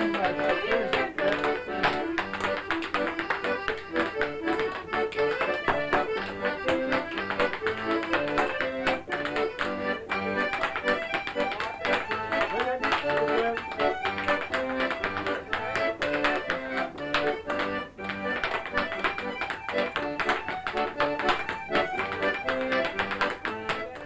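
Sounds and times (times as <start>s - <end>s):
hard shoes tapping on a floor: 0.0s - 24.0s
piano accordion dance tune: 0.0s - 24.0s.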